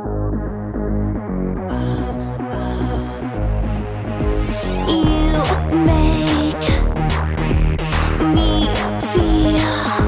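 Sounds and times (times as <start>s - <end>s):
synthesizer chords: 0.0s - 9.5s
steady bass: 0.0s - 10.0s.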